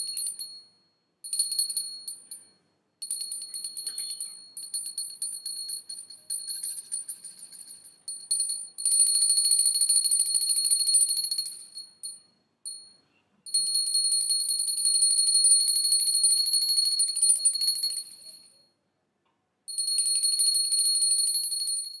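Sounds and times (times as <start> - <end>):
hand bell rung rapidly: 0.0 - 0.6, 1.3 - 12.9, 13.5 - 18.6, 19.7 - 22.0.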